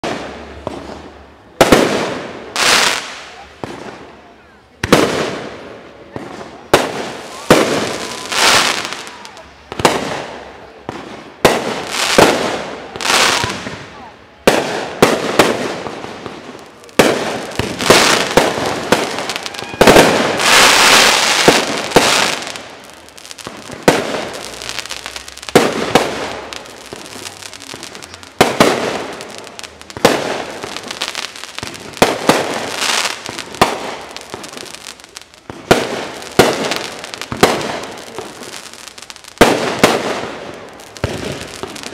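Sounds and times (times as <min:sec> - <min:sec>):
fireworks booming: 0:00.0 - 0:41.9
fireworks crackling: 0:00.0 - 0:41.9.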